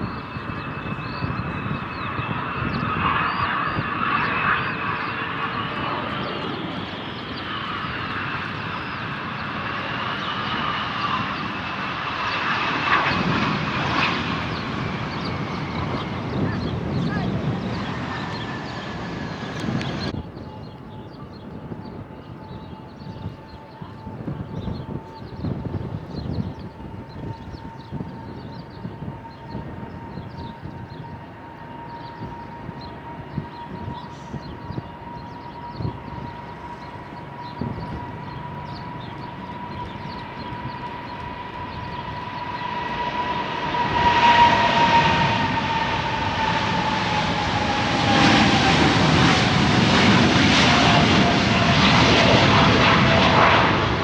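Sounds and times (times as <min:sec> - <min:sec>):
jet aircraft passing: 0:00.0 - 0:54.0.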